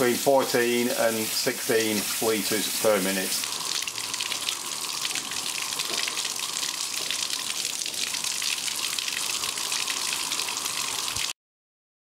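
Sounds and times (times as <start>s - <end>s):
water gushing from tap: 0.0s - 11.4s.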